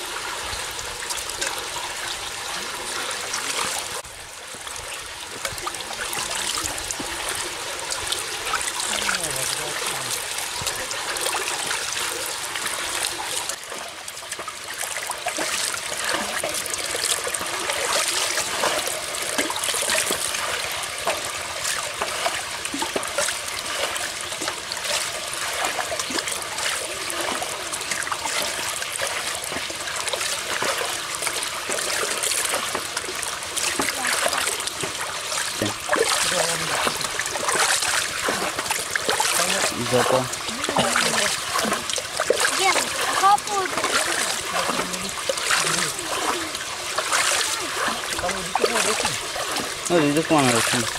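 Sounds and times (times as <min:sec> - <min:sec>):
water pouring and splashing: 0:00.0 - 0:50.9.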